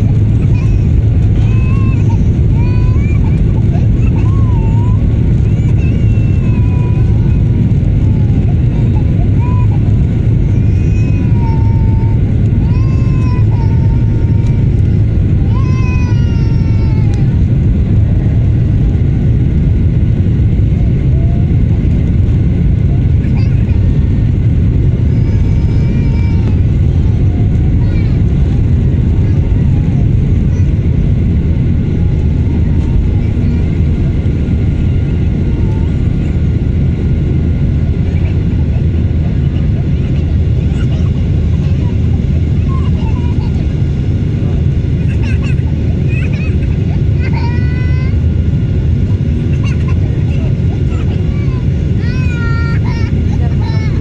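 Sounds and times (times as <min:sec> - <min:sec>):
aircraft engines rumbling: 0:00.0 - 0:54.0.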